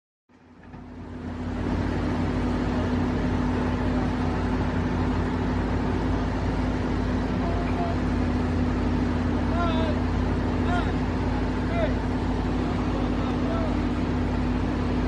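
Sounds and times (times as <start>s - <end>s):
diesel engine running: 0.3s - 15.0s.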